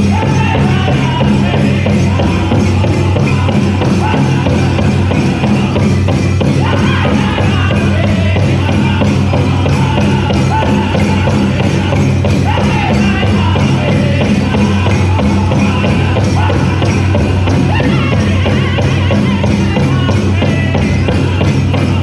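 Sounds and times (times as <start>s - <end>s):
bells jingling: 0.0s - 22.0s
big drum beating steadily: 0.0s - 22.0s
men singing high-pitched: 0.0s - 22.0s.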